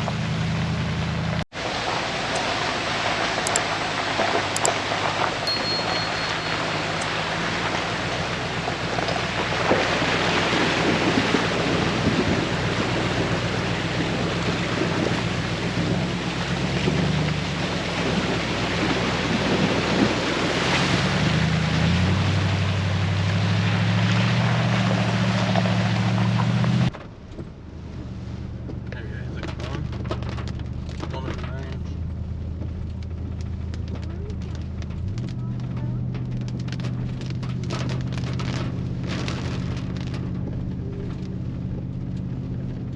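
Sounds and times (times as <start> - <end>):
road and wind noise: 0.0 - 42.9
vehicle engine drone: 0.0 - 42.9.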